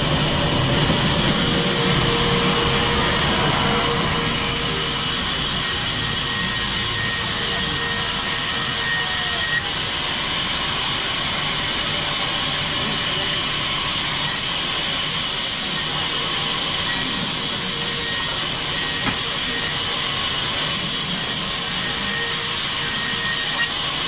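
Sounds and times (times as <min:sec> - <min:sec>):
band saw cutting through log: 0:00.0 - 0:24.0.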